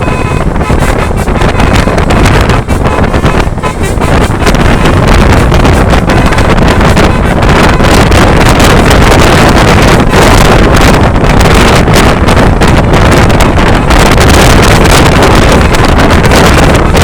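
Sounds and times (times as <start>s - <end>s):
road vehicle rumble: 0.0s - 17.0s
wind buffeting microphone: 0.0s - 17.0s.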